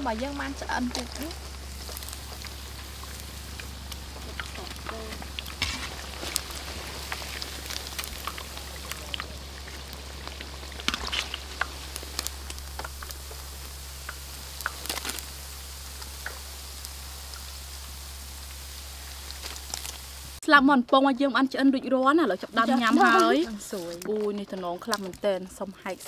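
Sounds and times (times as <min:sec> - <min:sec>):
oil sizzling with pops and crackles: 0:00.0 - 0:26.0.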